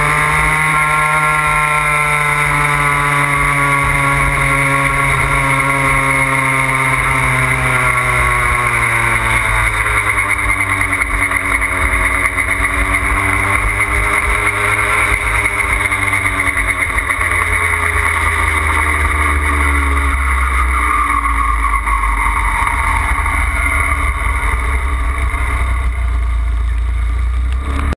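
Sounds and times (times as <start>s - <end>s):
moped two-stroke engine running: 0.0s - 27.9s.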